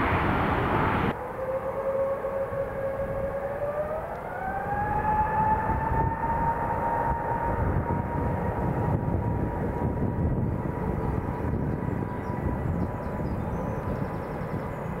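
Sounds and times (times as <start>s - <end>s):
loud engine rumble: 0.0s - 1.6s, 2.2s - 15.0s
jet engines whining: 0.0s - 15.0s.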